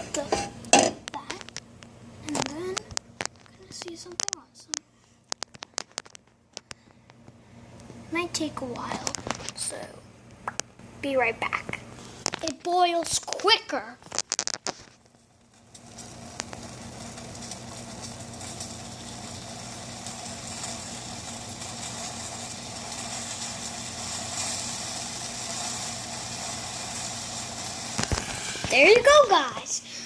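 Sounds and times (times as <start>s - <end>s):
pot boiling and bubbling: 0.0s - 30.0s.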